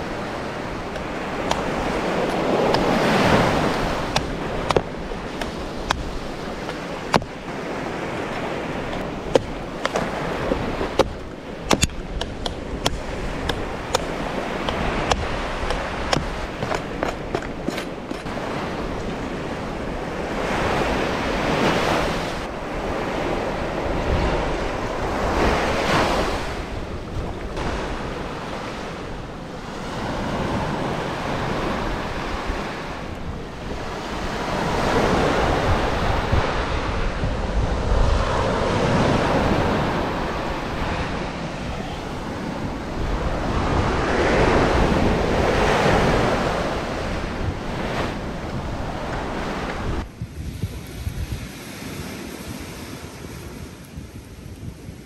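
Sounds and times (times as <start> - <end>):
small waves washing onto beach: 0.0 - 55.0
wind buffeting microphone: 0.0 - 55.0.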